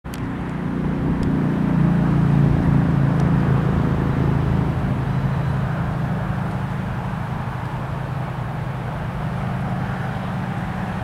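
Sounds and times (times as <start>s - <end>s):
diesel locomotive engine drone: 0.1s - 11.0s.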